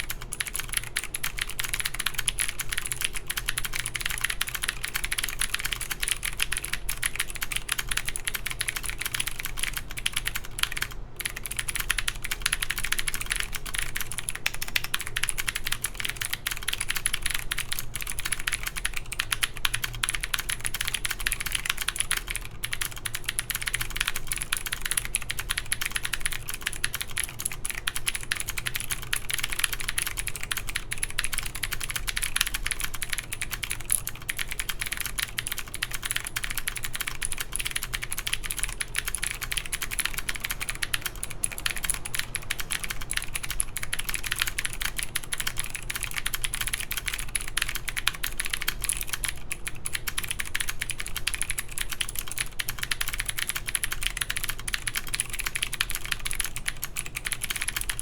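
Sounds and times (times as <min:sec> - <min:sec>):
clicky mechanical keyboard typing: 0:00.0 - 0:58.0.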